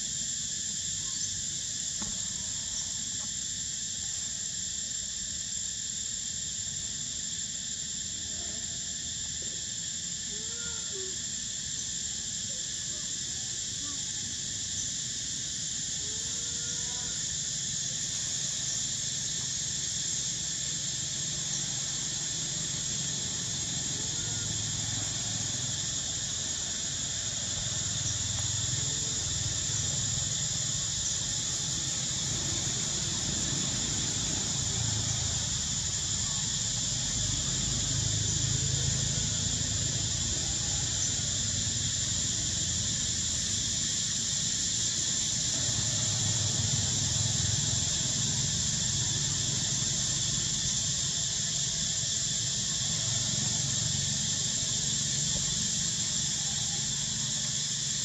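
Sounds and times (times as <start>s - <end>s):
forest insects droning: 0.0s - 58.0s.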